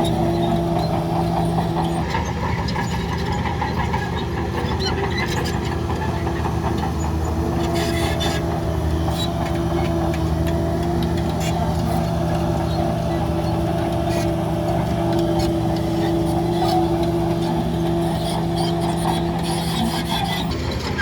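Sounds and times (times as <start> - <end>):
heavy diesel machinery running: 0.0 - 21.0.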